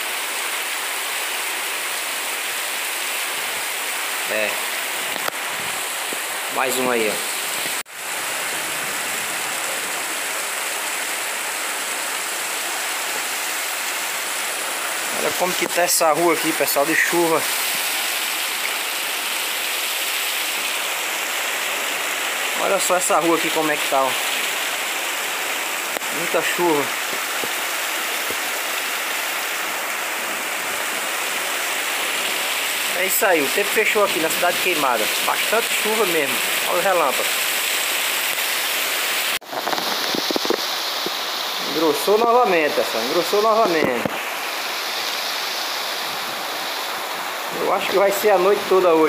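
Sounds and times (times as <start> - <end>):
heavy rain on a street: 0.0 - 49.0.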